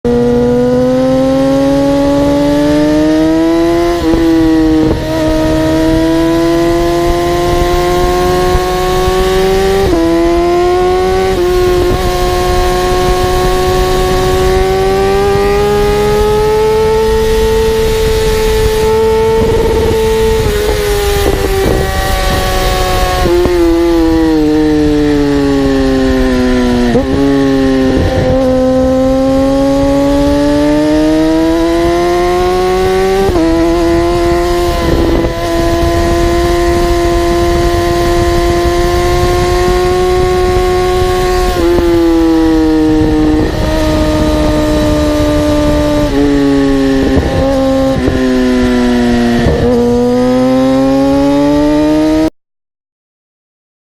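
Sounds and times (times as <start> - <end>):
motorcycle engine running: 0.1 - 52.3.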